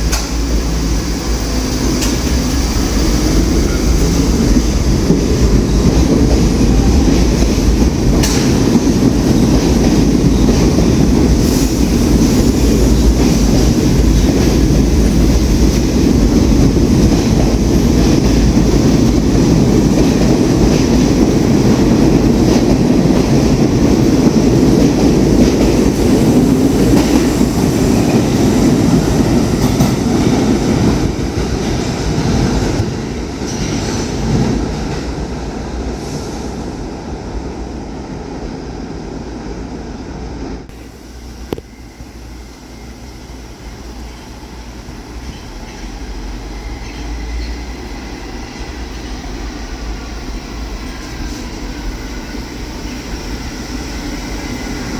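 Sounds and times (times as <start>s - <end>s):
subway train rumbling on track: 0.0s - 54.9s.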